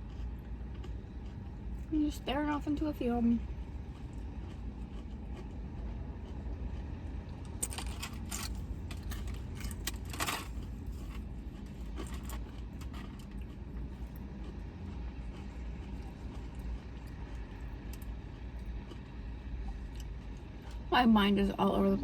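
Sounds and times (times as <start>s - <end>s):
food crackling and scraping: 0.0s - 2.8s, 3.4s - 20.9s
steady low rumble: 0.0s - 22.0s.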